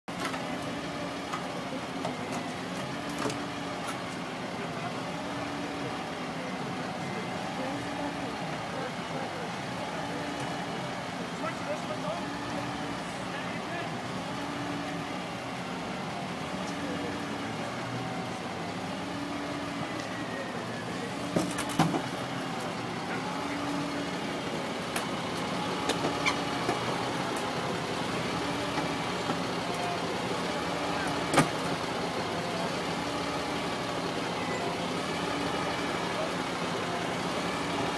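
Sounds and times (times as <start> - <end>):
engine hum: 0.1 - 37.9
voices: 0.1 - 37.9.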